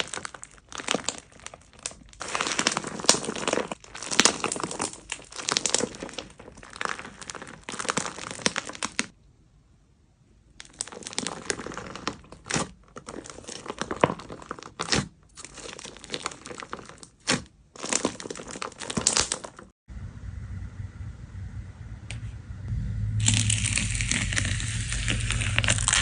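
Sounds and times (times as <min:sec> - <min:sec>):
crunchy slime being squeezed: 0:00.0 - 0:09.1, 0:10.6 - 0:19.7, 0:23.2 - 0:26.0.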